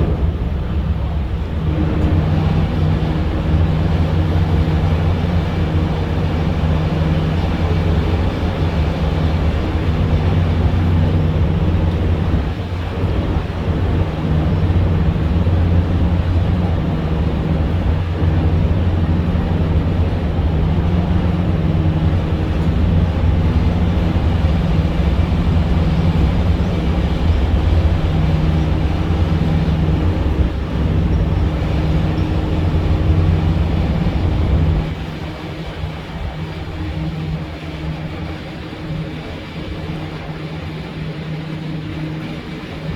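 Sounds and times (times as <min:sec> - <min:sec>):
boat engine humming: 0:00.0 - 0:42.9
water noise: 0:00.0 - 0:42.9.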